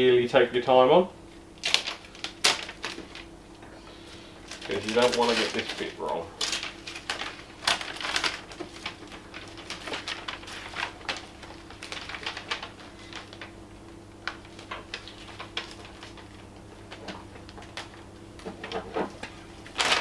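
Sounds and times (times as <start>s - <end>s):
steady low hum: 0.0s - 20.0s
paper and tape crinkling: 1.6s - 3.3s, 3.9s - 20.0s.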